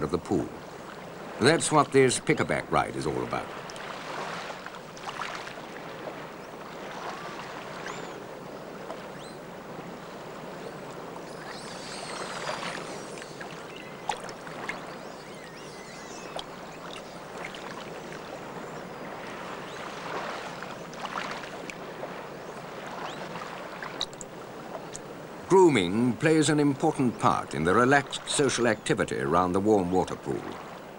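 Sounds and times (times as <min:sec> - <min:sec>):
running water rushing: 0:00.0 - 0:30.9.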